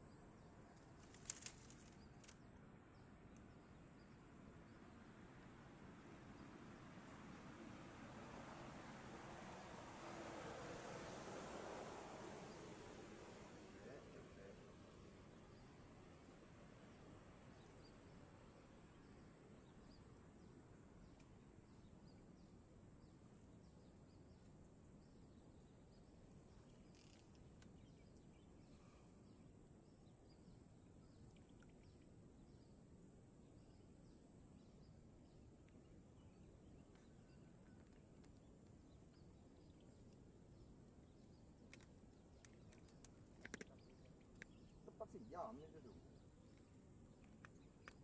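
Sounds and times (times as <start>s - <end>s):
faint insect chirps: 0.0s - 48.0s.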